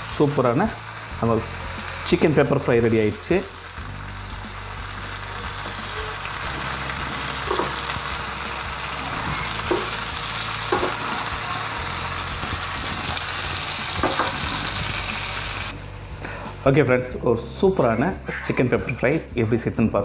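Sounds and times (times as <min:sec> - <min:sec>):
food sizzling in a hot pan: 0:00.0 - 0:16.6.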